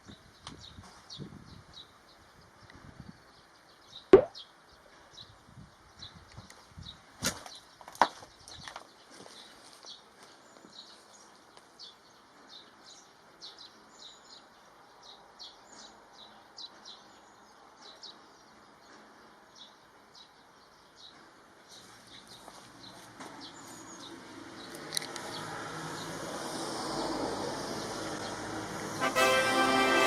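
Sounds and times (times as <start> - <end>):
small birds chirping: 0.0 - 26.2.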